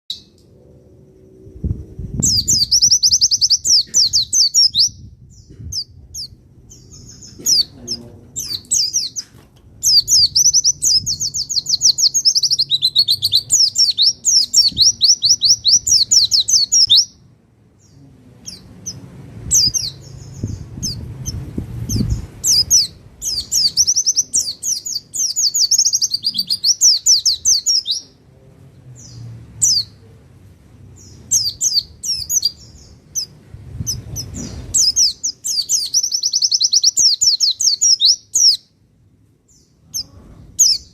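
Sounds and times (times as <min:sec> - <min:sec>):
bird singing chattering phrases: 0:02.2 - 0:17.2, 0:17.8 - 0:28.2, 0:31.0 - 0:38.7, 0:39.6 - 0:40.9.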